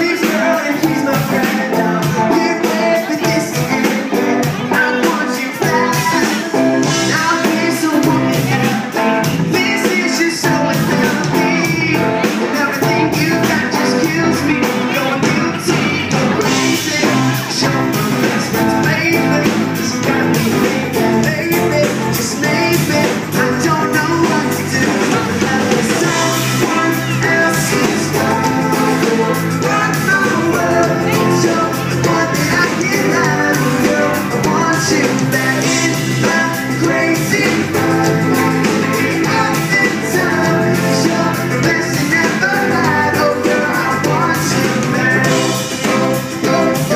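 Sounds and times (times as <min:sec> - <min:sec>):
lead singer singing: 0:00.0 - 0:46.9
live pop-rock band: 0:00.0 - 0:46.9.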